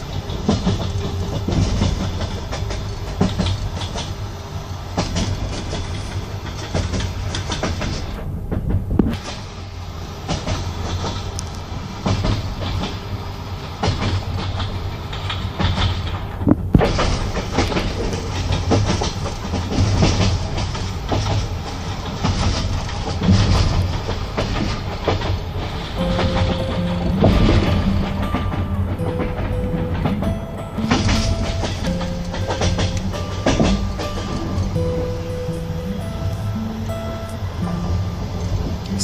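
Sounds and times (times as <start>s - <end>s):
railway carriage rumbling: 0.0s - 39.0s
wheels knocking over rail joints: 0.0s - 39.0s.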